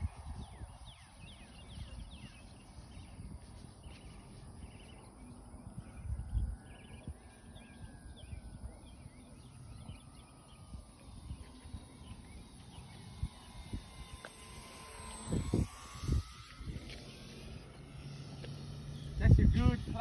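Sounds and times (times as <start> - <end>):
faint distant falling whine: 0.0 - 20.0
low microphone rumble: 0.0 - 20.0
small birds chirping: 0.0 - 20.0.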